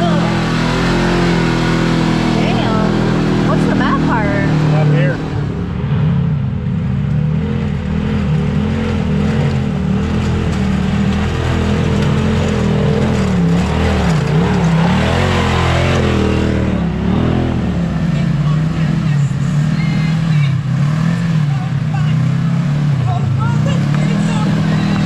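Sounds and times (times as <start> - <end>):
engine revving: 0.0 - 25.0.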